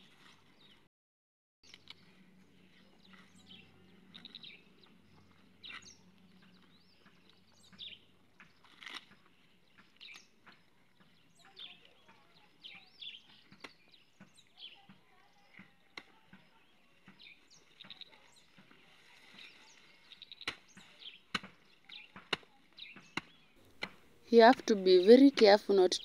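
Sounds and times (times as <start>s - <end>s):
birds chirping: 1.6s - 26.0s.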